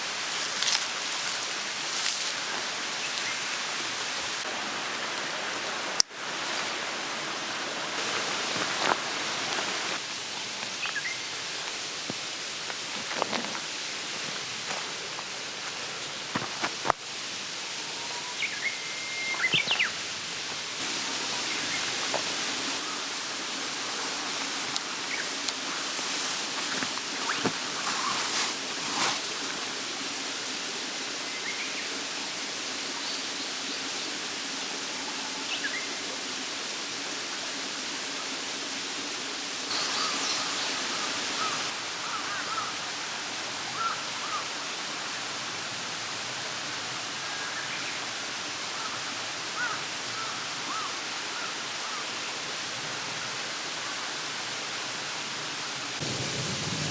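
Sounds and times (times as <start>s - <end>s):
mountain stream running: 0.0s - 56.9s.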